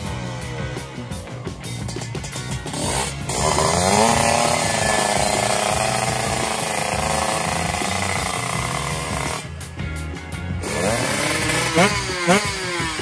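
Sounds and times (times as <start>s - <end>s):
two-stroke motorcycle engine: 0.0s - 13.0s.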